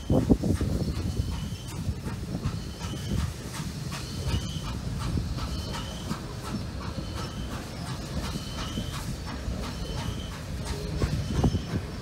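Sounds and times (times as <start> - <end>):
rail clicks: 0.0 - 12.0
steam hiss: 0.0 - 12.0
steam locomotive rumbling past: 0.0 - 12.0.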